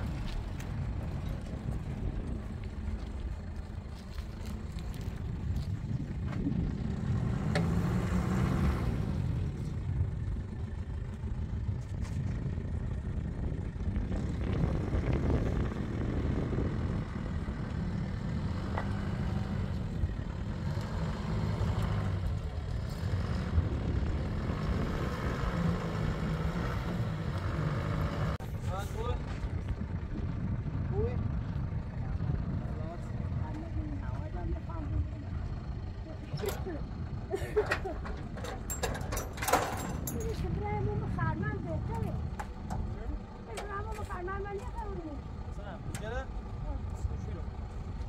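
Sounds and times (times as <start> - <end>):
pickup truck engine running: 0.0 - 48.0.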